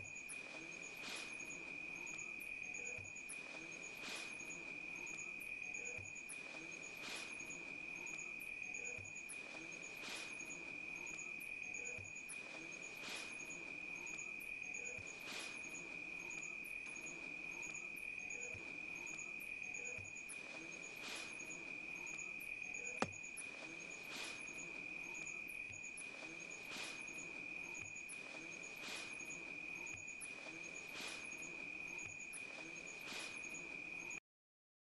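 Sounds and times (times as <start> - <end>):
insect chirps: 0.0 - 34.2
insect high-pitched trill: 0.0 - 34.2.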